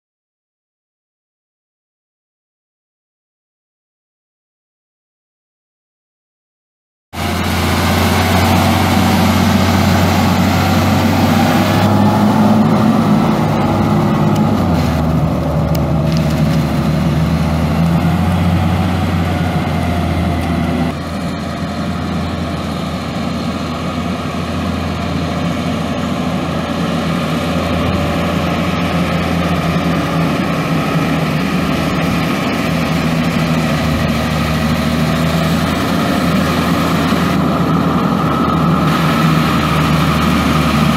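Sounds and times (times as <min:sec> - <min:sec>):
diesel truck engine running: 0:07.2 - 0:40.9.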